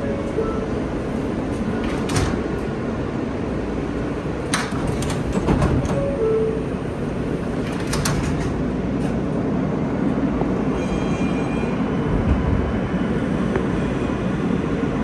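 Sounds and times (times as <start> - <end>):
subway car hum: 0.0 - 15.0.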